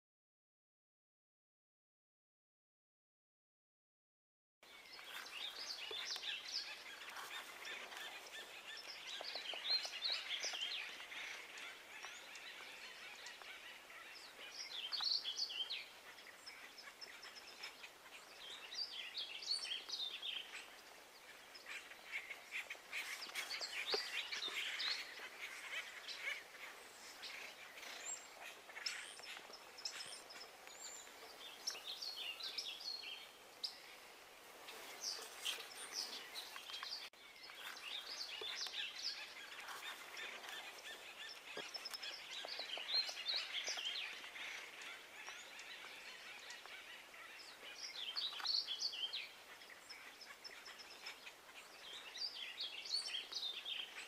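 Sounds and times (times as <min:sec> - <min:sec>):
wild birds chirping: 0:04.6 - 0:54.0.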